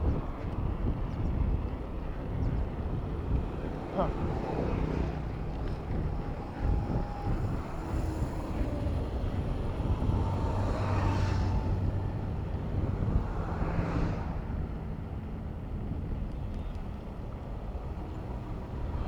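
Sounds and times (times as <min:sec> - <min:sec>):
motor vehicle engines: 0:00.0 - 0:19.0
wind buffeting microphone: 0:00.0 - 0:19.0.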